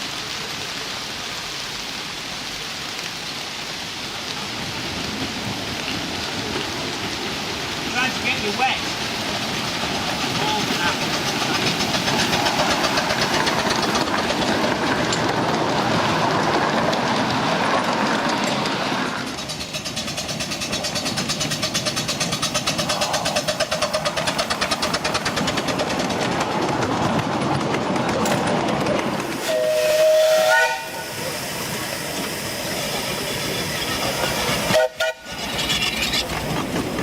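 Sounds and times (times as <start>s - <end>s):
steam hissing: 0.0s - 37.0s
steam locomotive exhaust beat: 4.3s - 37.0s.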